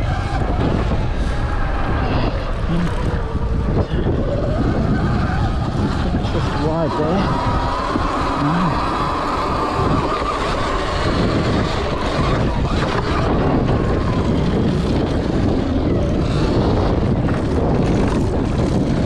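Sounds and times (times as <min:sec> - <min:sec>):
electric motor whine: 0:00.0 - 0:19.0
tyres on dirt: 0:00.0 - 0:19.0
wind noise on microphone: 0:00.0 - 0:19.0.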